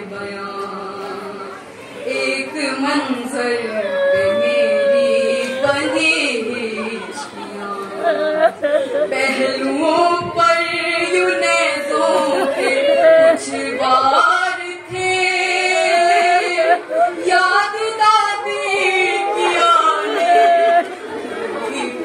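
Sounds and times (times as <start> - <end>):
woman singing a lament: 0.0 - 21.0.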